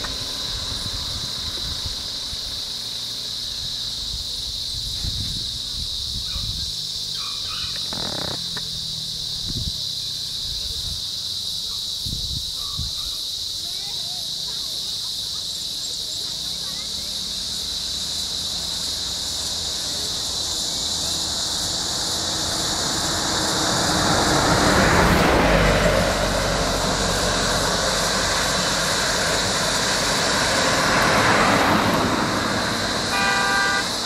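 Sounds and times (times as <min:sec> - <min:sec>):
vehicles driving past: 0:00.0 - 0:12.5, 0:13.2 - 0:34.0
high insect drone: 0:00.0 - 0:34.0.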